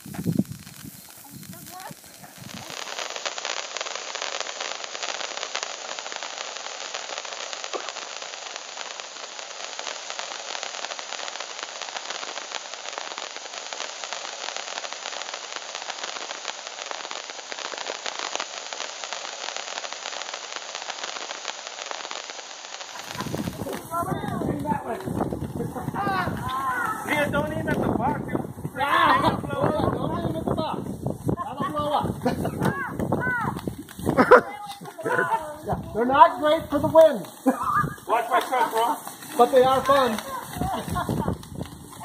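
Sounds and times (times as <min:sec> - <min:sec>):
sparklers crackling and hissing: 0:00.0 - 0:42.0.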